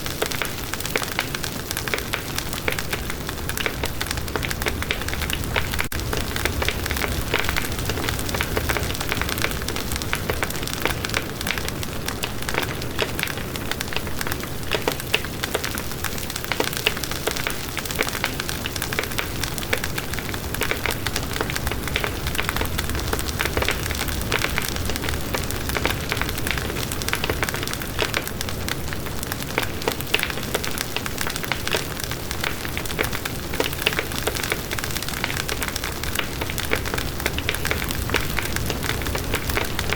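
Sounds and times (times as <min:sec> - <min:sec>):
wood crackling and popping: 0:00.0 - 0:39.9
low rumble of flames: 0:00.1 - 0:39.9.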